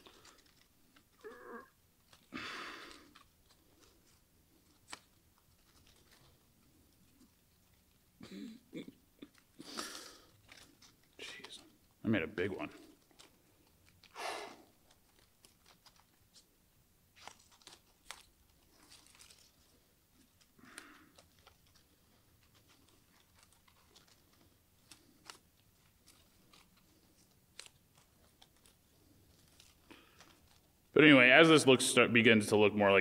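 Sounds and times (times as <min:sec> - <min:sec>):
paper rustling: 0:00.0 - 0:08.1, 0:12.5 - 0:30.9.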